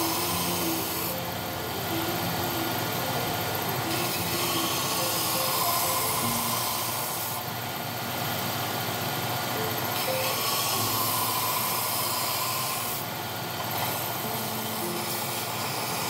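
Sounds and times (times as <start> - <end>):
abrasive sanding wood hiss: 0.0 - 8.8, 9.6 - 16.0
belt sander running: 0.0 - 9.0, 9.9 - 16.0.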